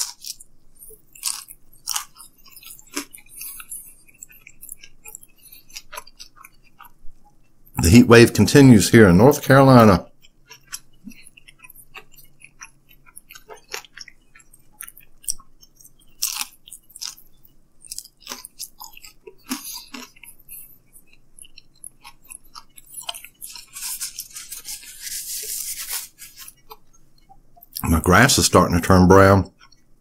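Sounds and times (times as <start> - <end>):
man chewing crunchy pizza: 0.0 - 8.6, 9.2 - 28.4, 29.1 - 30.0.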